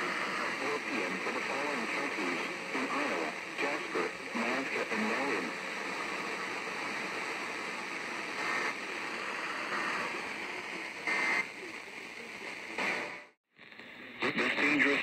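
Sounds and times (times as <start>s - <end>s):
faint radio speech: 0.0s - 15.0s
radio static hiss: 0.0s - 15.0s.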